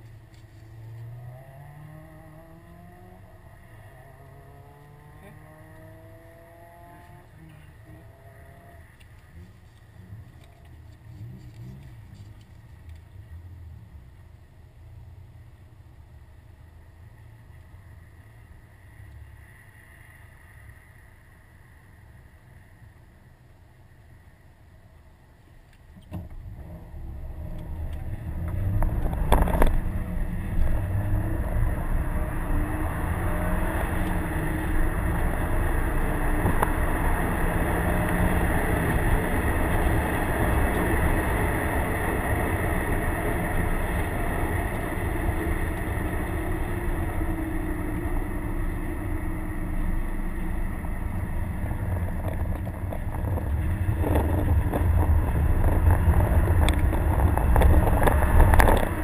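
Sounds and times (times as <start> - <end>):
car engine heard from inside: 0.0 - 24.4, 25.4 - 59.0.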